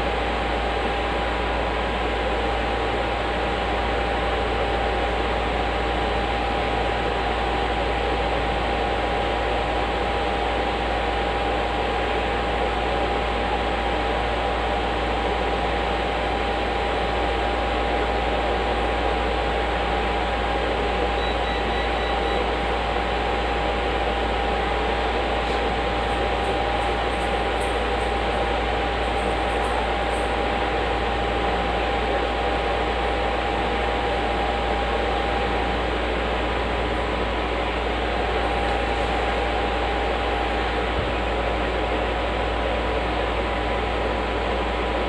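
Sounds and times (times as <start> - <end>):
steady fan tone: 0.0 - 45.0.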